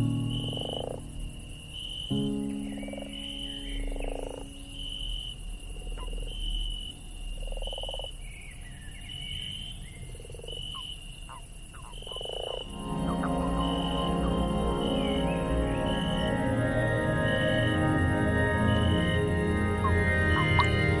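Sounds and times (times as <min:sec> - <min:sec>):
frogs low pulsed croaks: 0:00.0 - 0:21.0.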